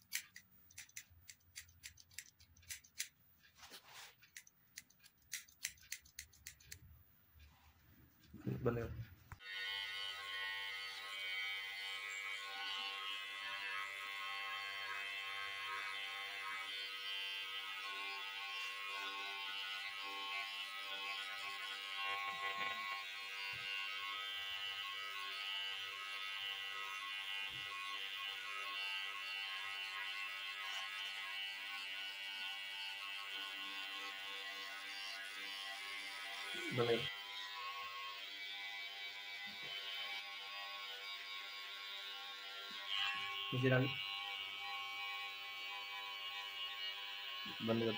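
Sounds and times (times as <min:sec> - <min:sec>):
electric hair clipper buzzing: 0:00.0 - 0:03.1, 0:09.4 - 0:47.9.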